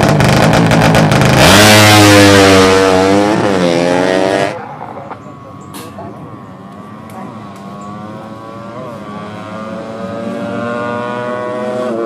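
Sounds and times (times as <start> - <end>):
motorcycle engine revving high: 0.0 - 12.0.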